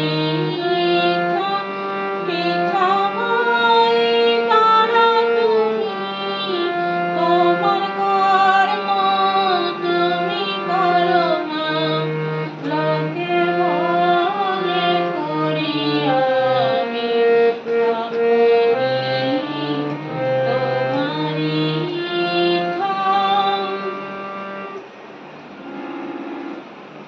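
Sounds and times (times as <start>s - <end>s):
woman singing devotional melody: 0.0s - 24.8s
harmonium playing chords: 0.0s - 27.0s.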